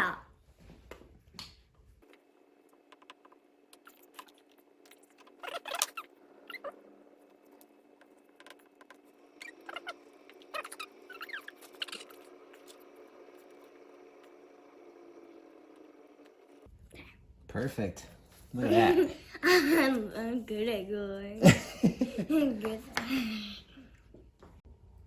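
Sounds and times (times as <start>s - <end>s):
steady low hum: 1.6s - 25.0s.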